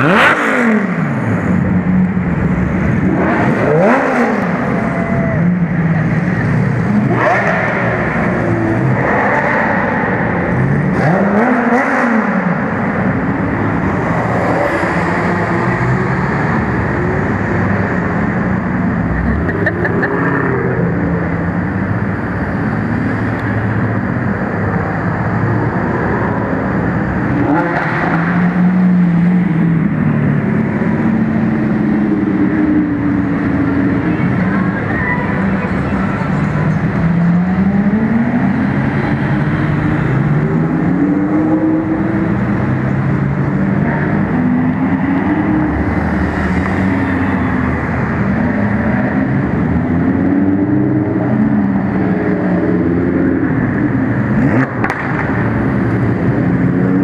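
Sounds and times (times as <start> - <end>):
sports car engines revving: 0.0 - 57.0.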